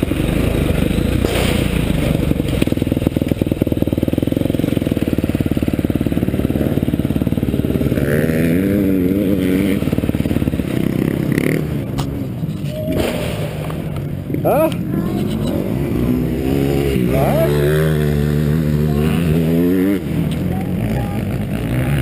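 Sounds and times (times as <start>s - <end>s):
dirt bike engine: 0.0s - 22.0s.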